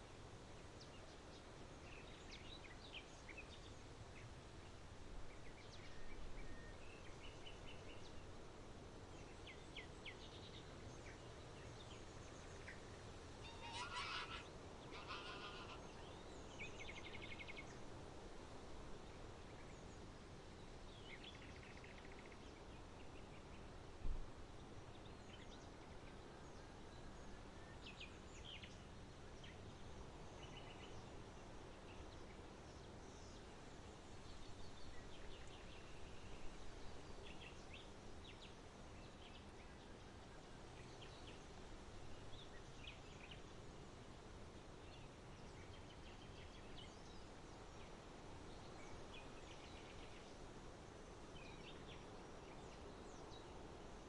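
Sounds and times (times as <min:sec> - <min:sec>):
low background noise: 0:00.0 - 0:54.0.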